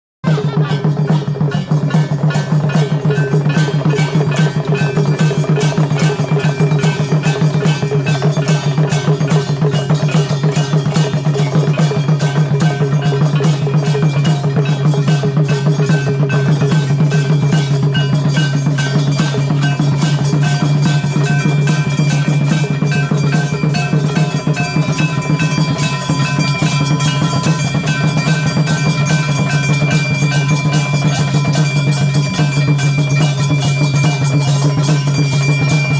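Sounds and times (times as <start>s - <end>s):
fast drumming: 0.2s - 35.9s
metal bells clanging: 0.2s - 35.9s.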